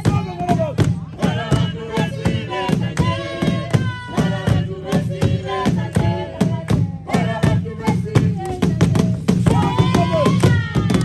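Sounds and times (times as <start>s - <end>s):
group singing: 0.0s - 11.0s
steady drum beat: 0.0s - 11.0s.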